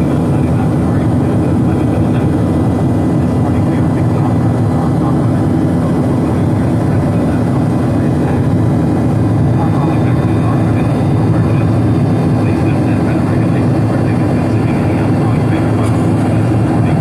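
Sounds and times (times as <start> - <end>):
airliner cabin rumble: 0.0 - 17.0
steady hum: 0.0 - 17.0.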